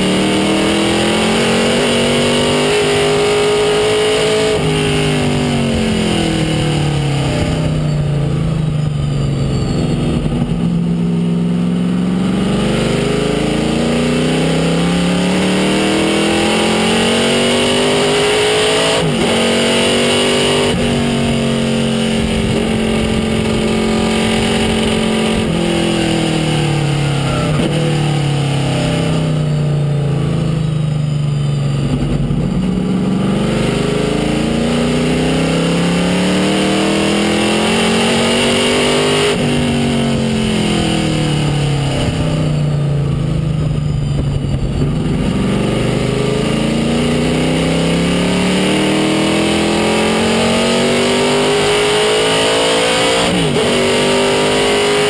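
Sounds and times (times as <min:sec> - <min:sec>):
race car engine from inside cabin: 0:00.0 - 0:55.0.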